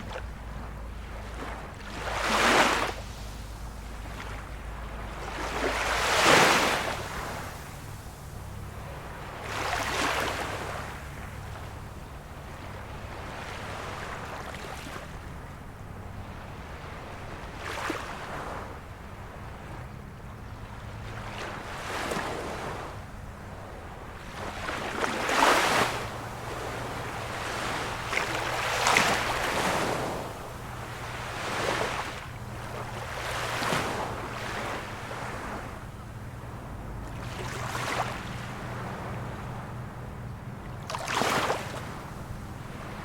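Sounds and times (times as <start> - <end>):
small waves washing in: 0.0 - 43.0.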